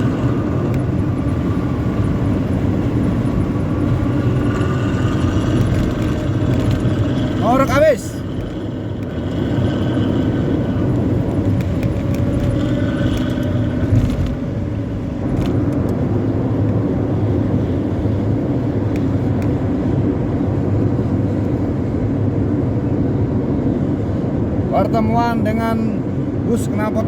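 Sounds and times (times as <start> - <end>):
bus engine deep rough drone: 0.0 - 27.0
road noise: 0.0 - 27.0.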